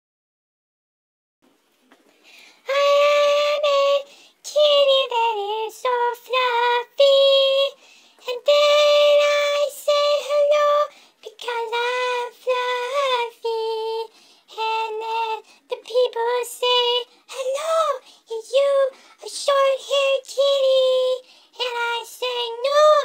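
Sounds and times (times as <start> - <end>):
high-pitched singing voice: 2.6 - 23.0.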